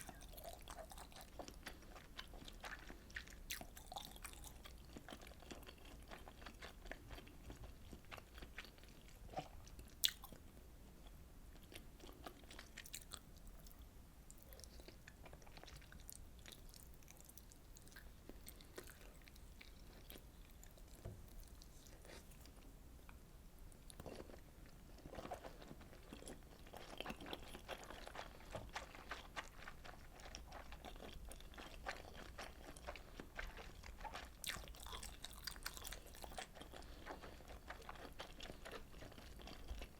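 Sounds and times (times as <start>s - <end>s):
person chewing: 0.0s - 22.6s, 23.8s - 39.9s.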